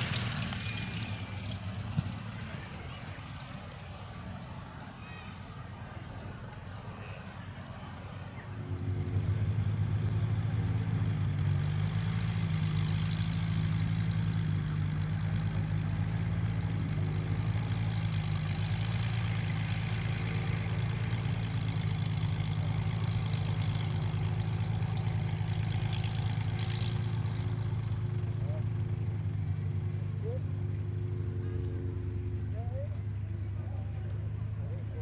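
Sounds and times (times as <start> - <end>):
piston aircraft engine running: 0.0 - 35.0.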